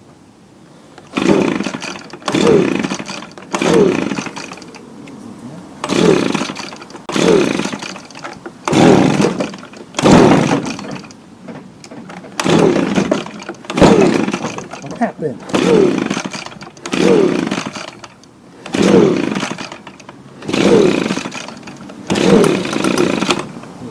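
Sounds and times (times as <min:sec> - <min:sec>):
blower engine pull-start whirr: 0:01.0 - 0:04.9, 0:05.8 - 0:23.9.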